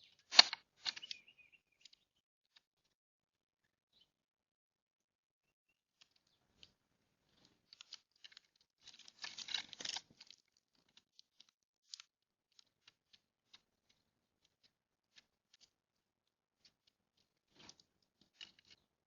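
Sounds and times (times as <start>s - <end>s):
birds pecking seed: 0.0s - 3.0s, 5.9s - 19.0s
rustling and crunching: 0.0s - 3.0s, 6.0s - 19.0s.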